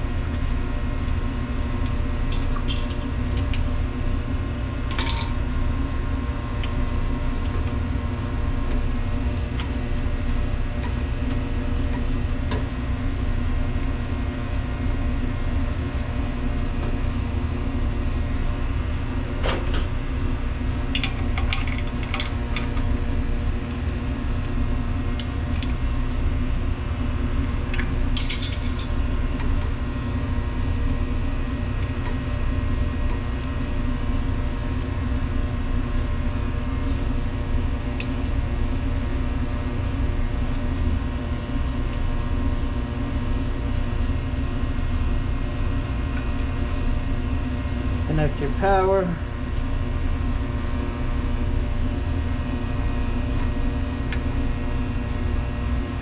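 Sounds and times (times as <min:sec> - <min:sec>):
machinery hum: 0:00.0 - 0:56.0.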